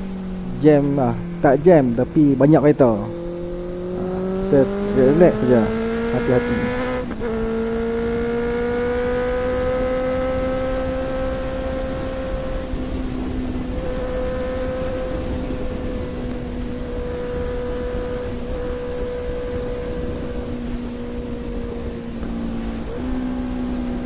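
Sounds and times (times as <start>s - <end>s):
motorcycle engine running: 0.0s - 24.0s
wind on microphone: 0.0s - 24.0s.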